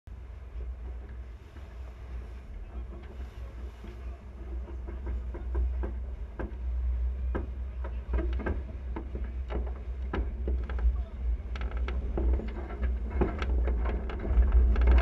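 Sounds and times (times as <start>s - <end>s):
wind rumbling on microphone: 0.1s - 15.0s.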